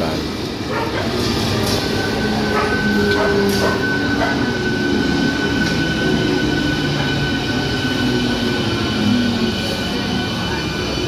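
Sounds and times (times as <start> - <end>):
train wheel and rail noise: 0.0 - 11.0.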